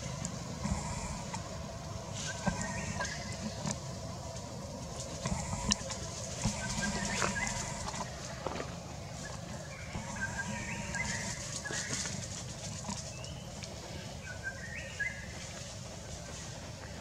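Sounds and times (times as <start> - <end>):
bird calling: 0.0 - 16.9
low rumble: 0.0 - 17.0.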